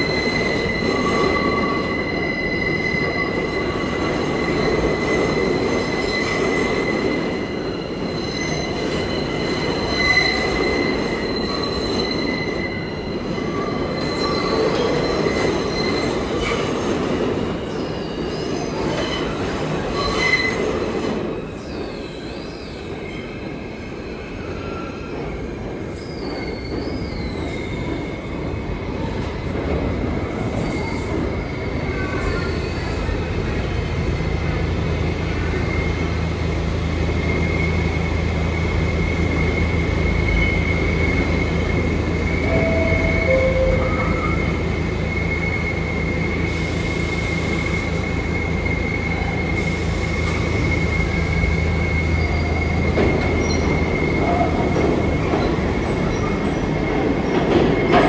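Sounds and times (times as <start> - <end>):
rumble of train cars: 0.0 - 58.0
subway train wheels squealing: 0.0 - 58.0.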